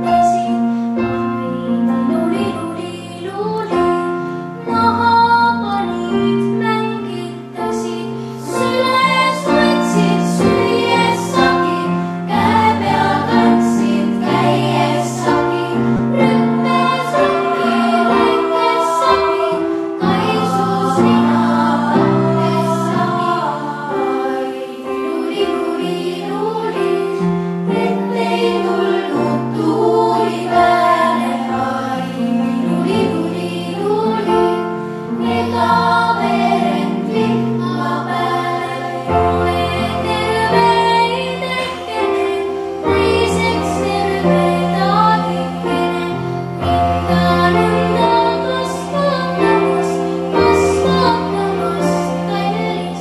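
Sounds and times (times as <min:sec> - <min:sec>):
girls' choir singing: 0:00.0 - 0:01.1, 0:01.7 - 0:53.0
instrumental accompaniment: 0:00.0 - 0:53.0.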